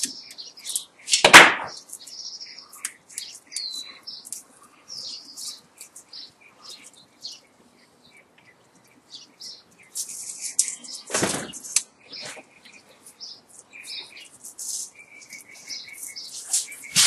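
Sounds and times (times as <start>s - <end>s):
wire rustling and scraping: 0.0s - 7.4s, 8.1s - 17.0s.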